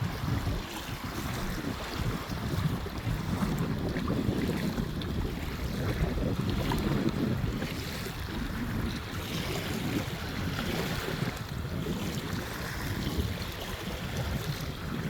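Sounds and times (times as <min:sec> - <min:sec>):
waves washing onto beach: 0:00.0 - 0:15.0
wind buffeting microphone: 0:00.0 - 0:15.0.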